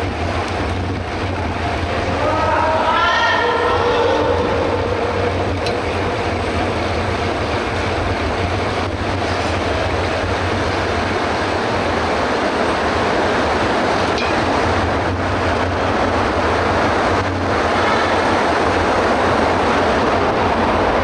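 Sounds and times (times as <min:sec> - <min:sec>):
bike tyres on pavement: 0:00.0 - 0:21.0.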